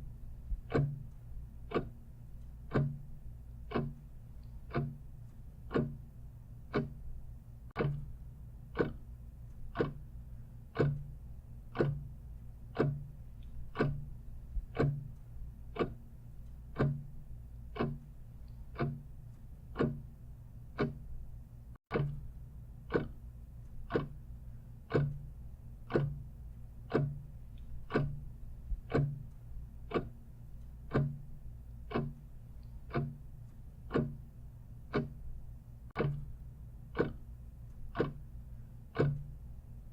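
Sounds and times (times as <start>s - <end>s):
clock ticking: 0.0s - 21.2s, 21.8s - 39.9s
low steady hum: 0.0s - 39.9s.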